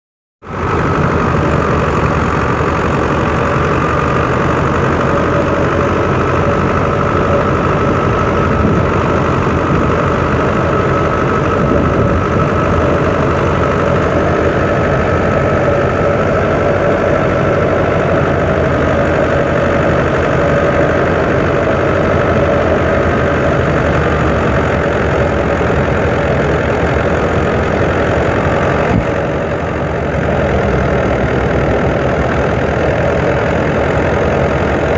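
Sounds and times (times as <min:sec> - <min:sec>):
thresher machinery running: 0:00.4 - 0:34.9
tractor diesel engine running: 0:00.4 - 0:34.9.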